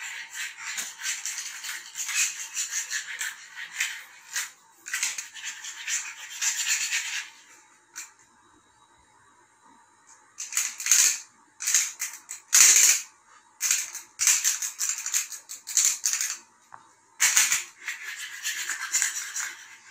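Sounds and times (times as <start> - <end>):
plastic toy rattling: 0.0 - 7.3, 10.4 - 16.5, 17.2 - 19.9.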